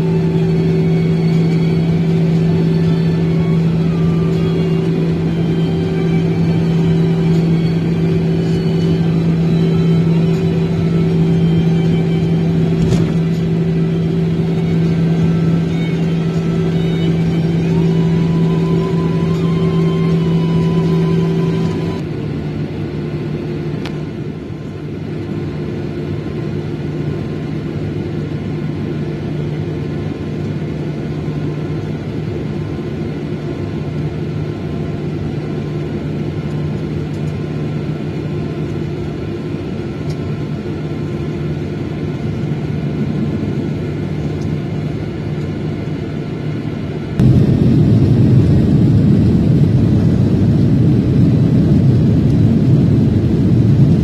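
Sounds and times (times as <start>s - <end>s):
jet engines hum in cabin: 0.0s - 54.0s.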